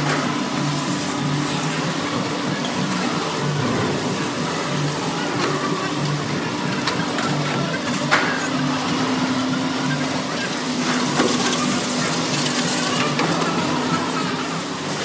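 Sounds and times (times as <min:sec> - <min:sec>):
conveyor machinery hum and hiss: 0:00.0 - 0:15.0.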